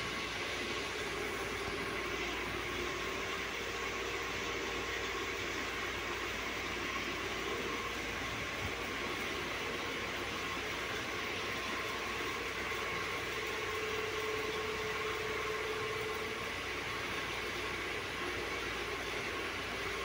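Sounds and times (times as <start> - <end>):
background hum and hiss: 0.0 - 20.0.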